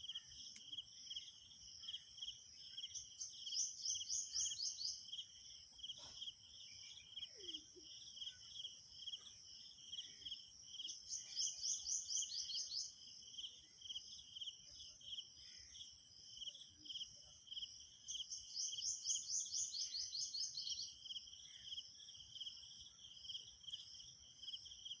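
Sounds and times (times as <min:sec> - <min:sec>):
high insect-like chirping: 0:00.0 - 0:25.0.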